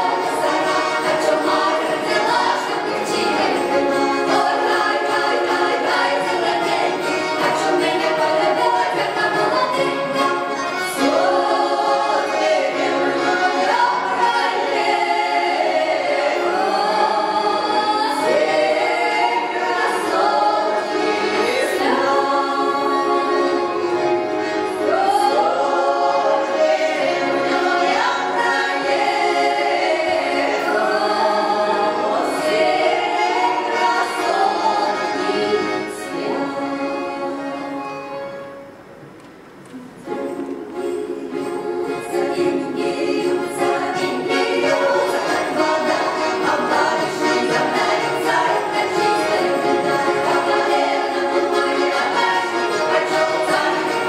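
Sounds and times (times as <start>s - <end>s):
women singing in harmony: 0.0s - 38.2s, 40.1s - 54.0s.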